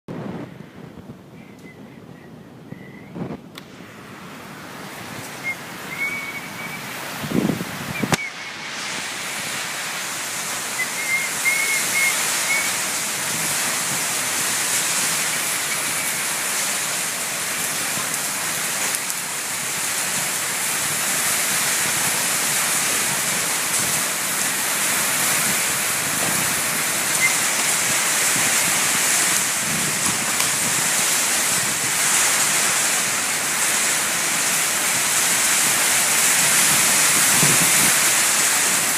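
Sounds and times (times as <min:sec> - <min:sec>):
heavy rain hissing: 0:00.1 - 0:38.9.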